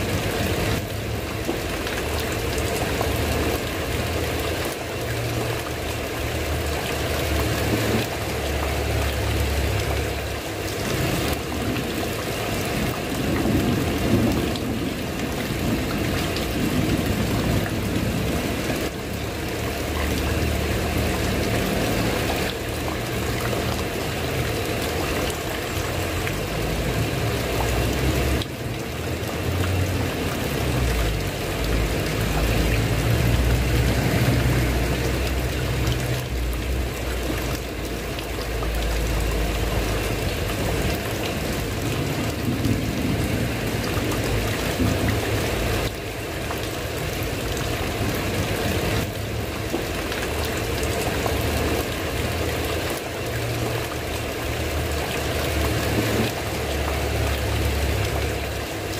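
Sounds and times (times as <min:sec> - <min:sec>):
rain on a tiled roof: 0:00.0 - 0:58.9.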